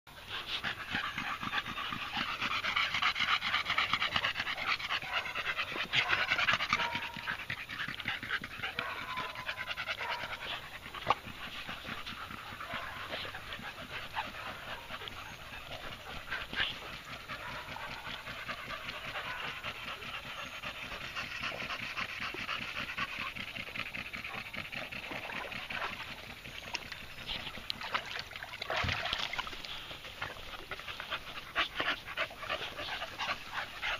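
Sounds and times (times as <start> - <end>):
dogs panting: 0.1 - 33.9.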